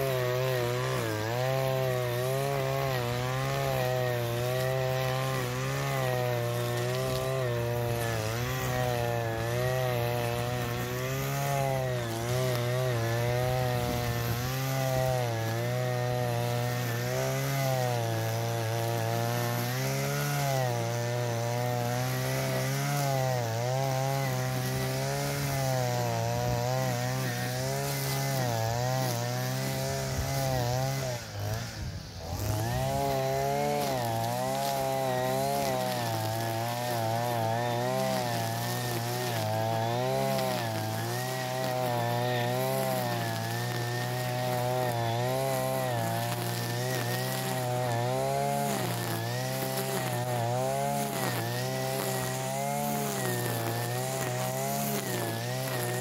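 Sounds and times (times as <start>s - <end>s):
brush cutter cutting grass: 0.0s - 56.0s.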